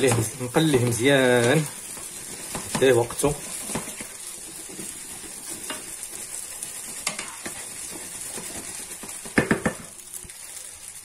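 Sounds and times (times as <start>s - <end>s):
wooden spatula scraping pan: 0.0s - 9.9s
rice sizzling in oil: 0.0s - 11.0s.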